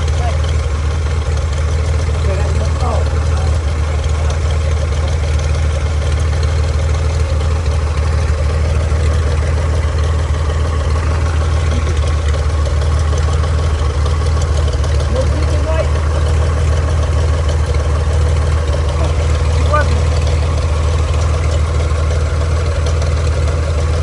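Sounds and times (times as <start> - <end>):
aircraft engine idling: 0.0 - 24.0.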